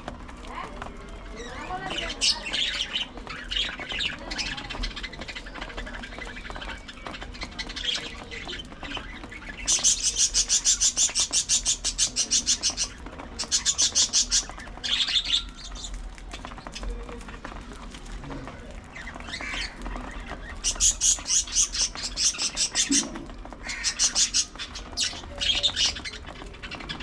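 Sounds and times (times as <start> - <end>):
budgerigars chirping: 1.8 - 16.0, 19.0 - 27.0.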